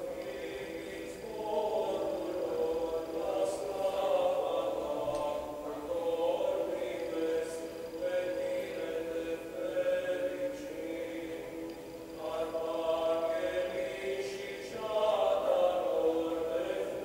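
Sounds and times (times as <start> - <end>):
choir singing slow chant: 0.0 - 17.0.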